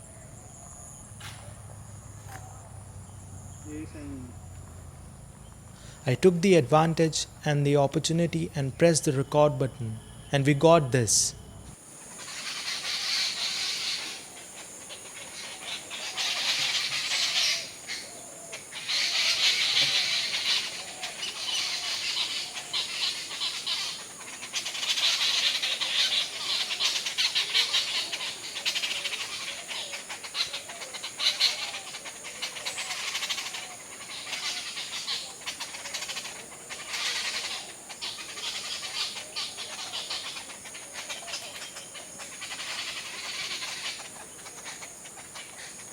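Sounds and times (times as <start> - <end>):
flock of birds chattering: 0.0 - 45.9.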